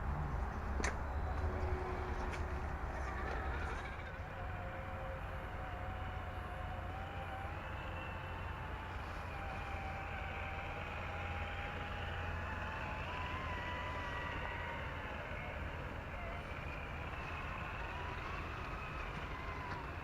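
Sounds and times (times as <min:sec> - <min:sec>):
electric motor and gearbox whine: 0:00.2 - 0:20.0.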